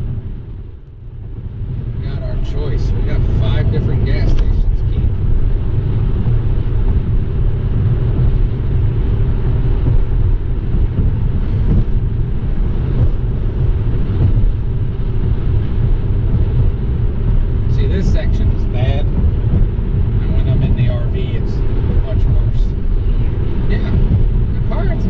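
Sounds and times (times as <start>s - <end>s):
car tyres and engine rumble: 0.0s - 25.0s.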